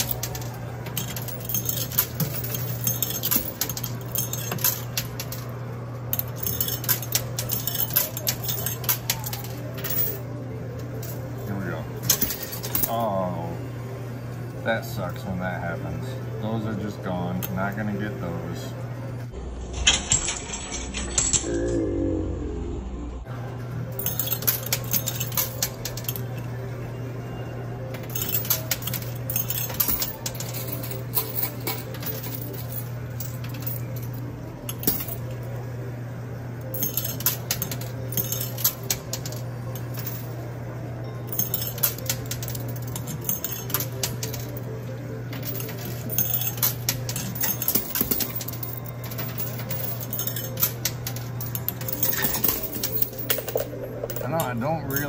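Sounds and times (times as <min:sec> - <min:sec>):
coins clinking and clattering: 0:00.0 - 0:13.4, 0:19.6 - 0:21.8, 0:23.9 - 0:26.7, 0:27.8 - 0:55.0.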